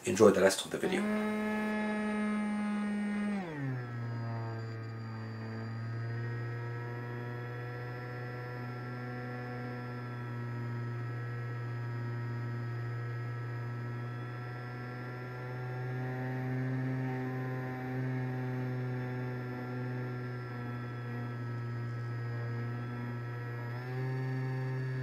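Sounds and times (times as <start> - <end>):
electric motor and propeller humming: 0.0 - 25.0
whining tones: 0.0 - 25.0.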